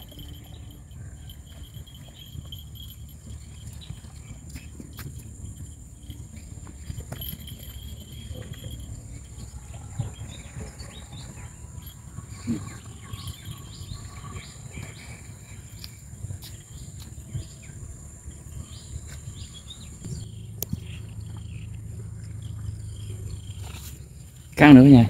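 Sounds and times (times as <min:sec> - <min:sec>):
high-pitched insect drone: 0:00.0 - 0:20.4.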